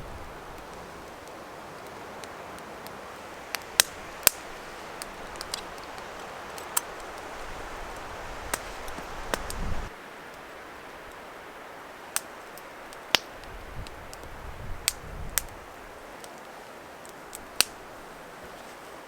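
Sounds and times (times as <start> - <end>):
burning wood popping: 0.0 - 18.7
campfire crackling: 0.0 - 19.0.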